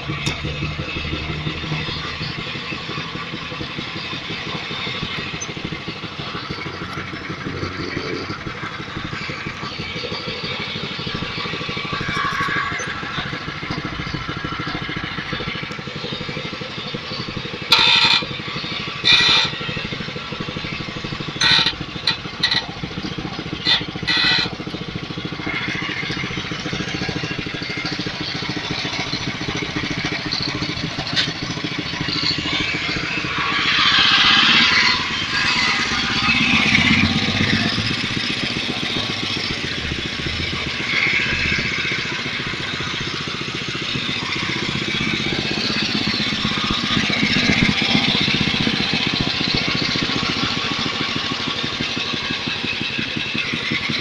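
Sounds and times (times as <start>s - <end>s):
loud high-pitched bursts: 0.0s - 54.0s
small engine idling: 0.0s - 54.0s.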